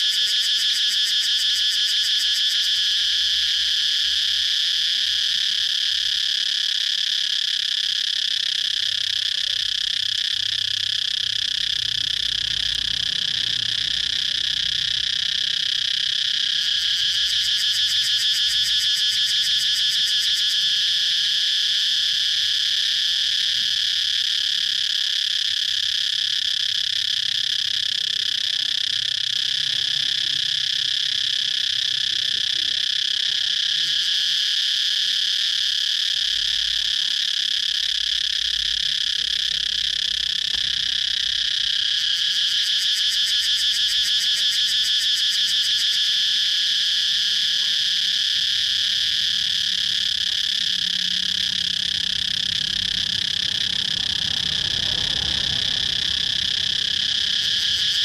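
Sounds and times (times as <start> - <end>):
cicadas buzzing: 0.0 - 58.0
pulsing cicada call: 0.0 - 58.0.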